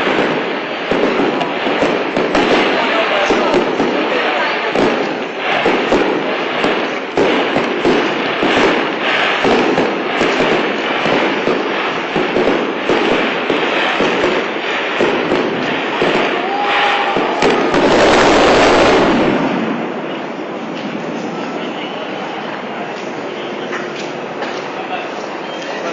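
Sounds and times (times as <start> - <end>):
fireworks bursting: 0.0 - 25.9.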